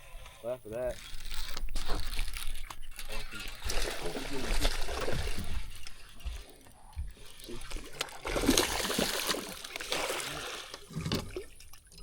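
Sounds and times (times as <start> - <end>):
fish thrashing and splashing water: 1.1 - 12.0.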